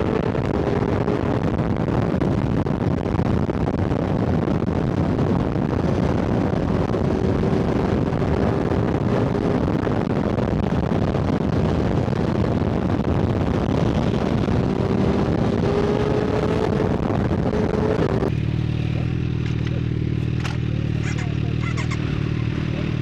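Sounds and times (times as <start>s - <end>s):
wind buffeting microphone: 0.0s - 21.6s
motorcycle engine droning: 0.0s - 23.0s.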